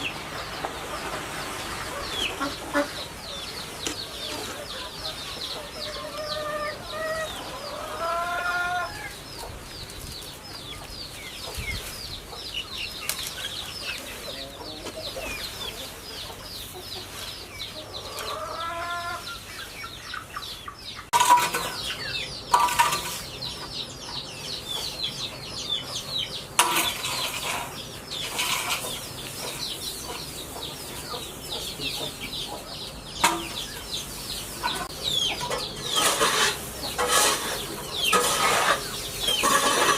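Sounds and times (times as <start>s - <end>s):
chickens clucking: 0.0s - 39.9s
drawn-out hen calls: 0.0s - 39.9s.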